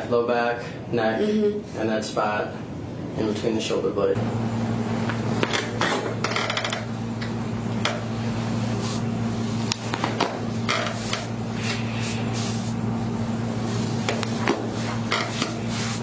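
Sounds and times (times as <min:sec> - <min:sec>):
steady electric hum: 0:00.0 - 0:16.0.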